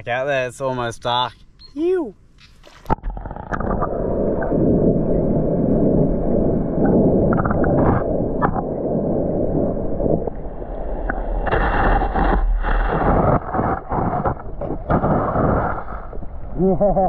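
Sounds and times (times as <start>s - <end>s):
underwater rumble and sloshing: 2.4s - 17.0s.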